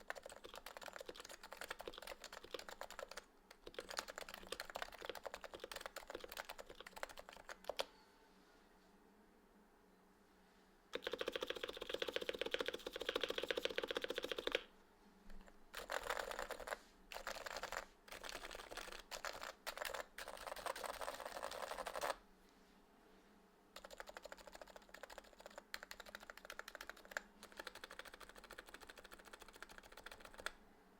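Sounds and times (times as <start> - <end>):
fast keyboard typing: 0.0 - 7.9, 10.9 - 14.7, 15.4 - 22.2, 23.8 - 30.6.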